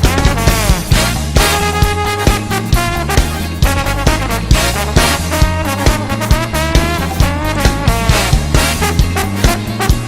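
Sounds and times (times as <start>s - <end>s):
upbeat swing music with brass: 0.0s - 10.0s.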